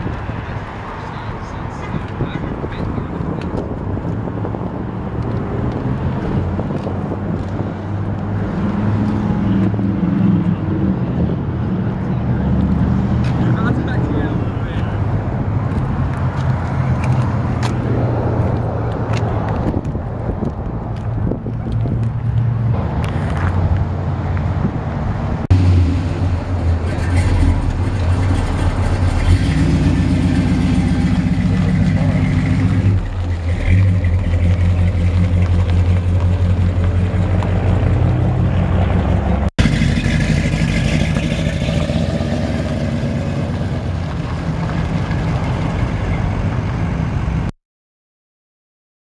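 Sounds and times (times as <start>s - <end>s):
car engine rumbling: 0.0s - 47.5s.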